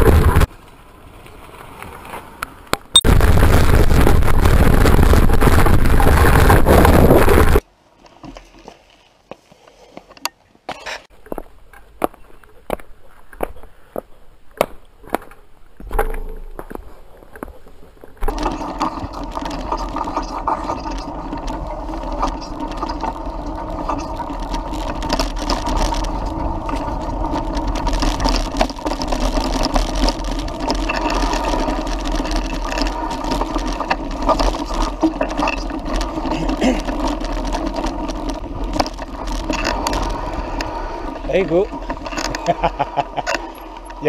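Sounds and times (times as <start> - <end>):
mountain bike rattling on dirt: 0.0 - 9.0, 15.0 - 44.0.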